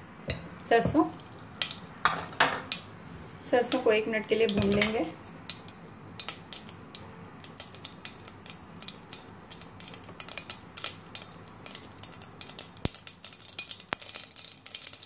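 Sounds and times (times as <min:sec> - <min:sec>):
faint sizzle: 0:00.0 - 0:15.0
mustard seeds popping in hot oil: 0:00.2 - 0:03.0, 0:03.6 - 0:15.0.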